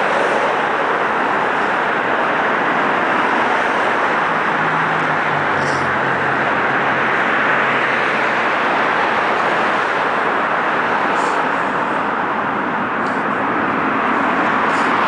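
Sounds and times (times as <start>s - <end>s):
loud rushing noise: 0.0s - 15.0s.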